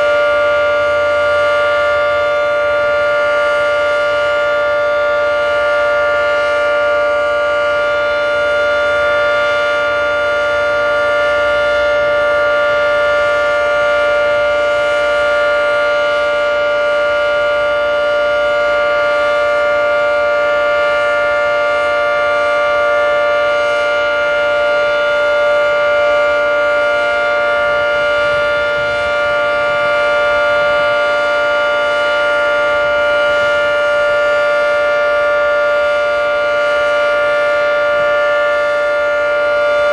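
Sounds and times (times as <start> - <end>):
civil defense siren steady chord: 0.0 - 39.9.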